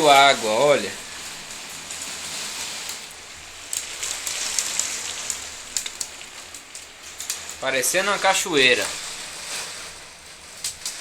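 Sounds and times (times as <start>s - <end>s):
rainwater splashing: 0.0s - 11.0s
water drips ticking: 0.0s - 11.0s.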